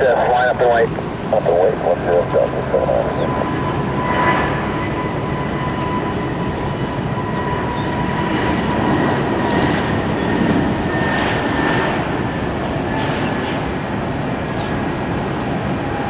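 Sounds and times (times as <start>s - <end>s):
jet engines at high power: 0.0s - 16.0s.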